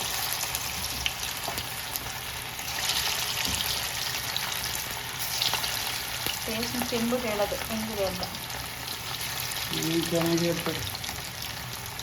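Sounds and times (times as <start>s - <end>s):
meat deep-frying in hot oil: 0.0s - 12.0s.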